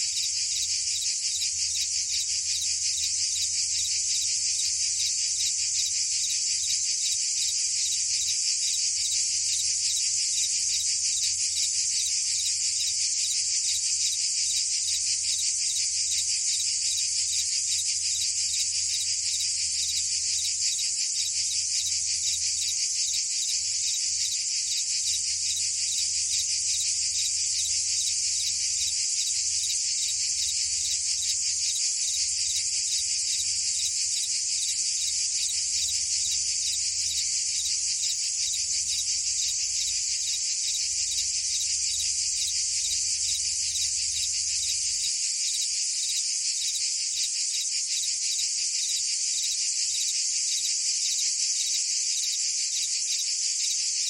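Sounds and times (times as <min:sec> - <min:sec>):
cicadas and crickets buzzing: 0:00.0 - 0:54.0.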